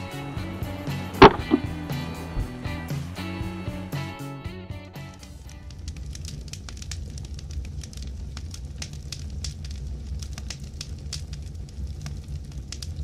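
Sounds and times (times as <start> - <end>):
fire crackling and popping: 0.0 - 3.5, 4.9 - 13.0
fire rumbling: 0.0 - 3.8, 5.0 - 13.0.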